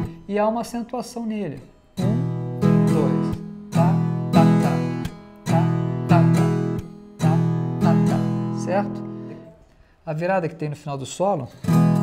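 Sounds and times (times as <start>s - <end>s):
guitar strummed chords: 0.0s - 9.6s, 11.6s - 12.0s.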